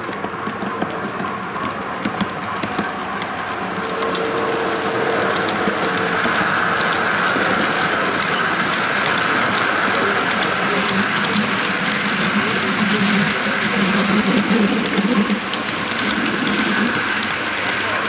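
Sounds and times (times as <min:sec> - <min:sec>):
wheels clicking on track: 0:00.0 - 0:18.0
model train motor whirring: 0:02.7 - 0:18.0.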